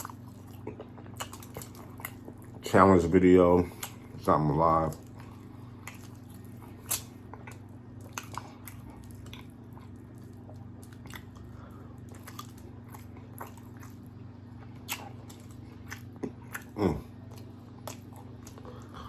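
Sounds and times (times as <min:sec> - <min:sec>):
mouth clicks and crunches: 0:00.0 - 0:02.6, 0:03.7 - 0:19.0
low background hum: 0:00.0 - 0:19.0
person chewing food: 0:00.0 - 0:19.0.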